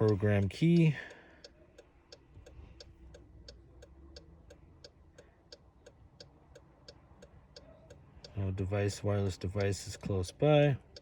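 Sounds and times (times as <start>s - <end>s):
hazard light flasher ticking: 0.0s - 11.0s.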